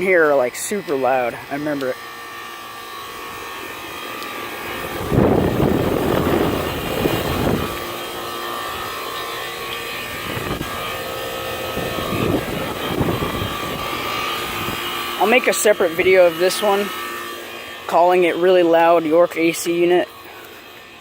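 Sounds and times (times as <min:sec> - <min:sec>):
air conditioner unit humming: 0:00.0 - 0:21.0
condenser fan rushing: 0:00.0 - 0:21.0.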